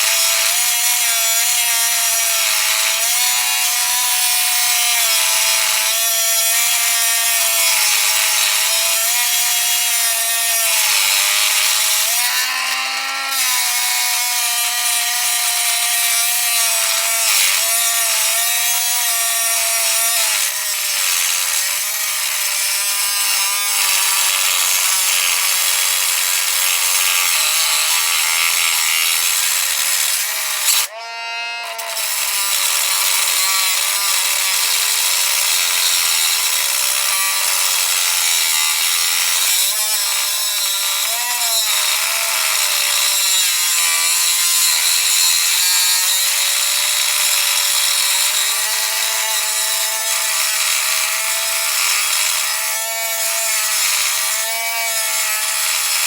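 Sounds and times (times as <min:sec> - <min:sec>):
power tool grinding metal: 0:00.0 - 0:56.0.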